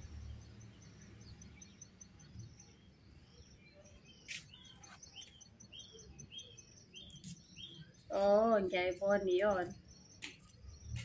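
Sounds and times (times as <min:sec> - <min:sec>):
faint birdsong: 0:00.0 - 0:11.0.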